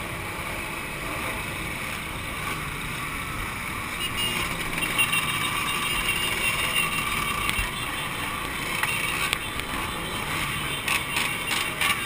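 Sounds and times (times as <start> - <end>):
two-stroke motorcycle engines: 0.0 - 12.0.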